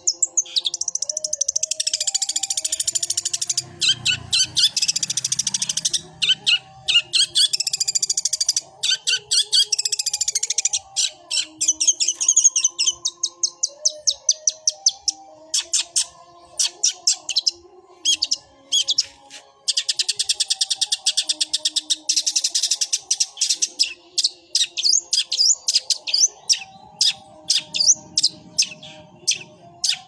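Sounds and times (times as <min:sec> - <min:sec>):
bird chattering song: 0:00.0 - 0:30.0.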